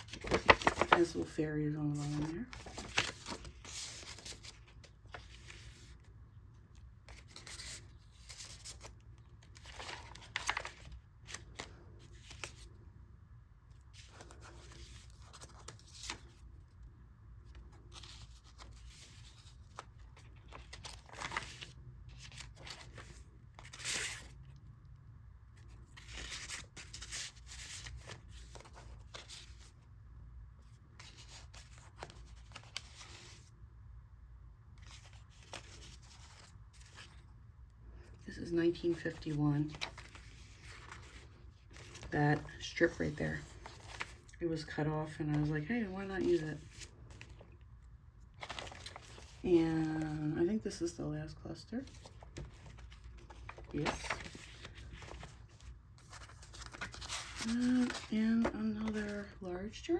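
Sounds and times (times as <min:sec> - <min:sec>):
paper pages rustling: 0:00.0 - 0:12.8, 0:13.7 - 0:24.6, 0:25.6 - 0:29.8, 0:30.6 - 0:33.5, 0:34.8 - 0:37.3, 0:38.0 - 0:50.9, 0:51.8 - 0:59.5.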